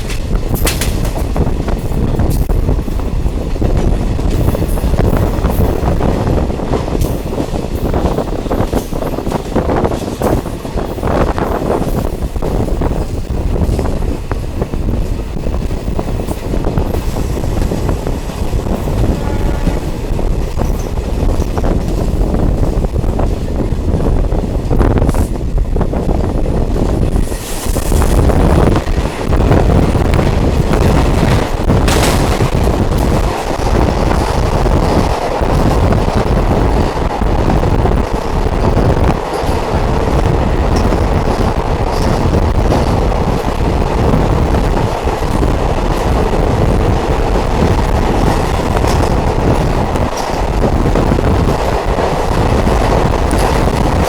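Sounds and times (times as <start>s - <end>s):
train rumbling in motion: 0.0s - 54.0s.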